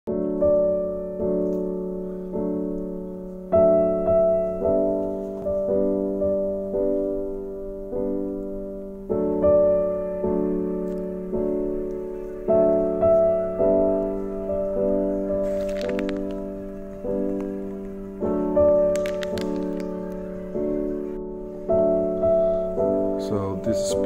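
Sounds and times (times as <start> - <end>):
slow piano music: 0.1 - 24.0.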